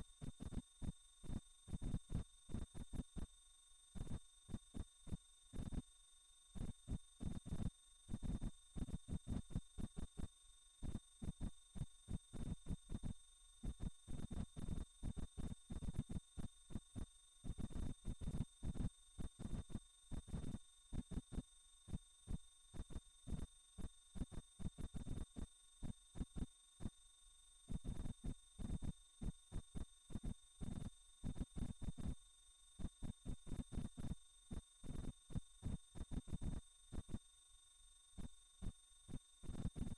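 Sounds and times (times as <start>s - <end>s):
high-pitched pulsing sine tone: 0.0s - 39.9s.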